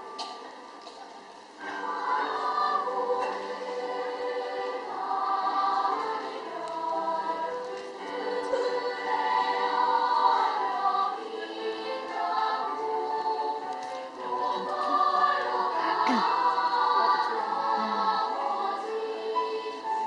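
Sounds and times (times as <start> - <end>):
children's choir singing: 1.6 - 20.0.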